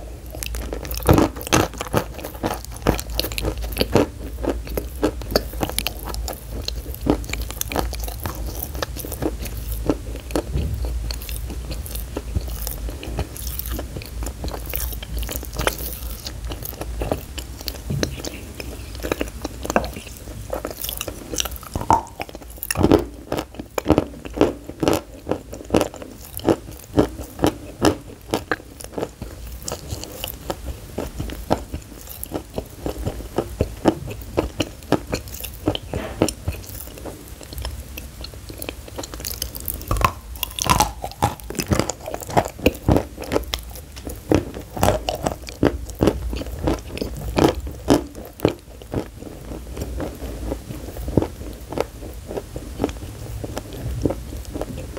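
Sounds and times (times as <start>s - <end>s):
crunching chewing of chalky sticks: 0.0s - 54.9s.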